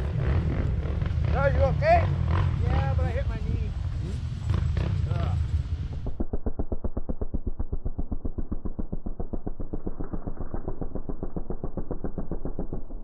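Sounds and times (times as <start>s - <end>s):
quad engine throbbing under throttle: 0.0s - 13.0s.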